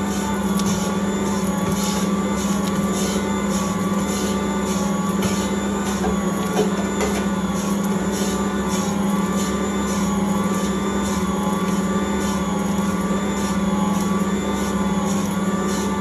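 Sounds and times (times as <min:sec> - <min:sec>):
stand mixer kneading dough: 0:00.0 - 0:16.0.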